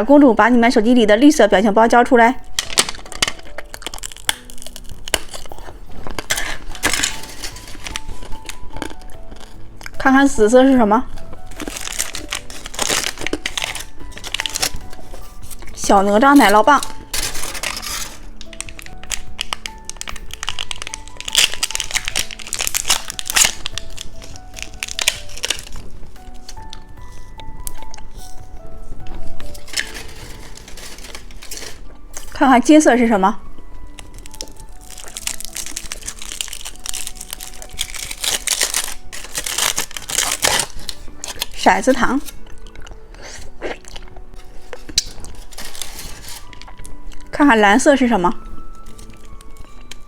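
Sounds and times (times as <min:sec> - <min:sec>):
soft background music: 0:00.0 - 0:50.0
plastic wrapper crinkling: 0:02.4 - 0:10.4, 0:11.0 - 0:50.0.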